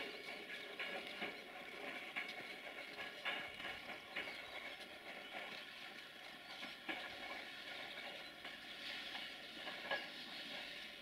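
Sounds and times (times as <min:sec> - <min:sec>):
train coaches rumbling on rails: 0:00.0 - 0:11.0.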